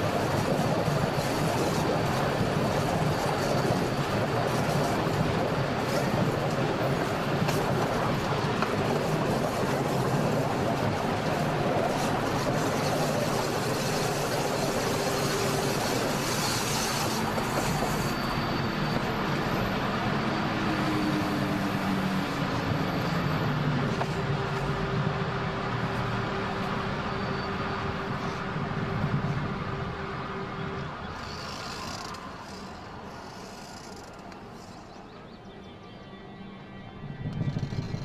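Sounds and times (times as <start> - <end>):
train wheels rumbling on rails: 0.0 - 35.0, 37.0 - 38.0.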